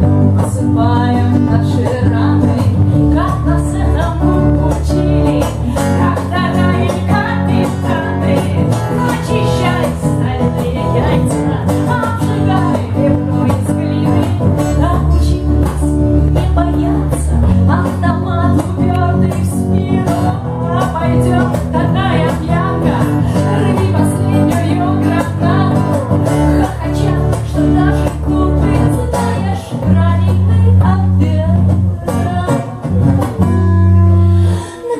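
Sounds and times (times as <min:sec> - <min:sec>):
electric bass: 0:00.0 - 0:34.8
strummed acoustic guitar: 0:00.0 - 0:34.9
woman singing: 0:00.0 - 0:34.9.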